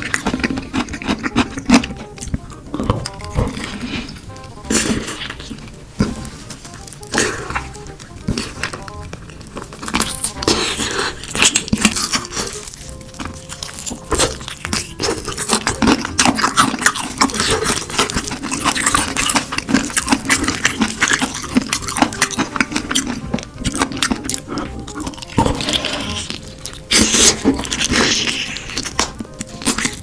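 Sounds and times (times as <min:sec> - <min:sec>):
background music: 0:00.0 - 0:30.0
crunchy chewing: 0:00.0 - 0:30.0.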